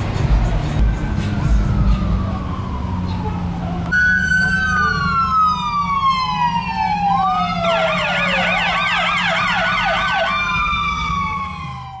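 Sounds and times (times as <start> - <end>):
low steady car hum: 0.0 - 12.0
wailing siren: 0.3 - 12.0
yelping siren: 0.9 - 12.0.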